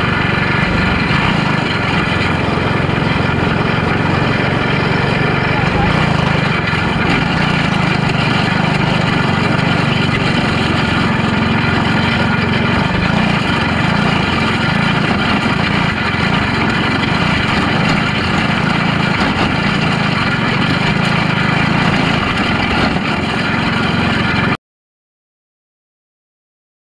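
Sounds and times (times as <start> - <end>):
race car engine running: 0.0 - 24.6.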